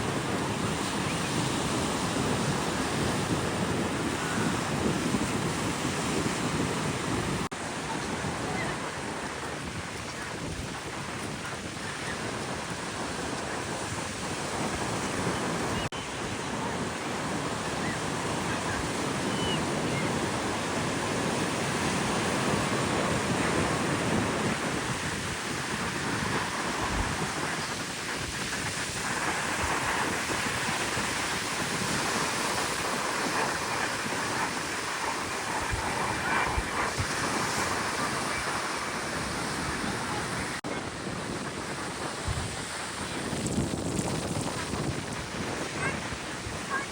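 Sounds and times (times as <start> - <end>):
breaking surf: 0.0 - 46.9
wind on microphone: 0.0 - 46.9.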